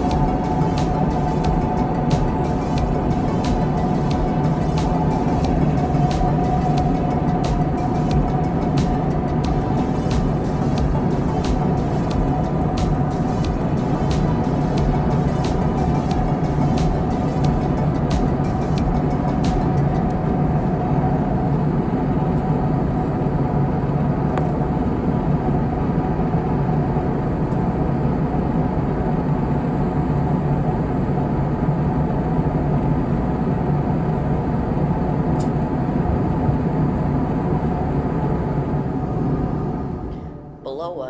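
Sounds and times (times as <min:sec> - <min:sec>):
jet cabin engine drone: 0:00.0 - 0:41.0
low hum: 0:00.0 - 0:41.0.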